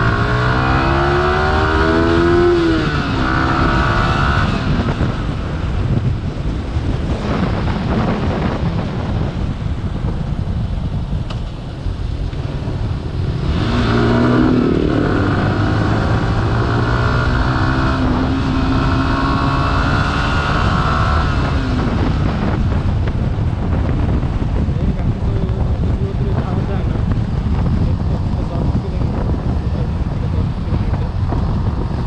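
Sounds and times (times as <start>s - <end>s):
motorcycle engine accelerating: 0.0s - 32.0s
wind rush over microphone: 0.0s - 32.0s.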